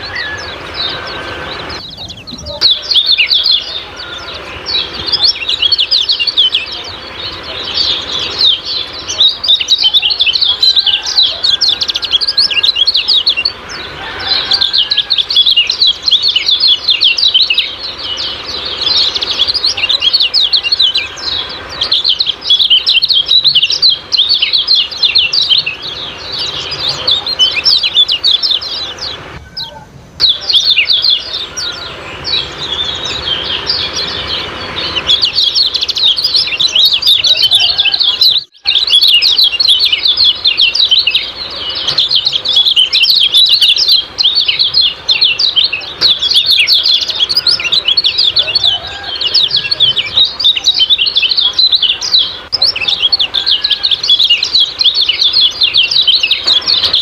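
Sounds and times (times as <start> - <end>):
bird chattering calls: 0.0 - 57.0.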